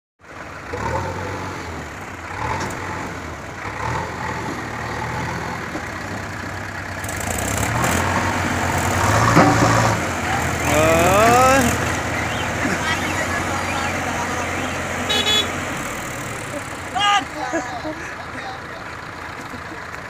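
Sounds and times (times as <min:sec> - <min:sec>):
diesel engines humming: 0:00.2 - 0:20.0.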